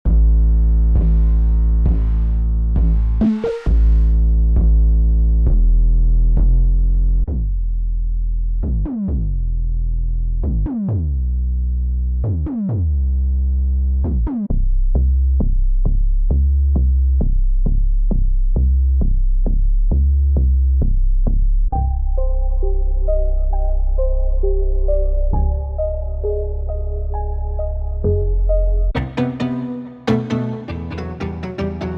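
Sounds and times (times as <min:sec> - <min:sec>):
synthesized bass notes: 0:00.0 - 0:31.9.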